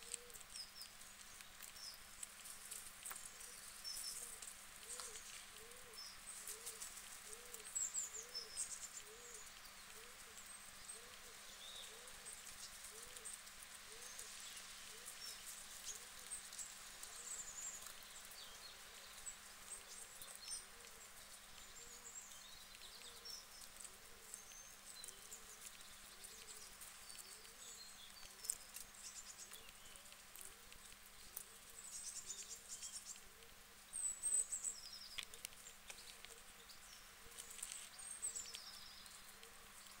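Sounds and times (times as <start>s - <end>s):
guinea pigs chewing lettuce: 0.0s - 40.0s.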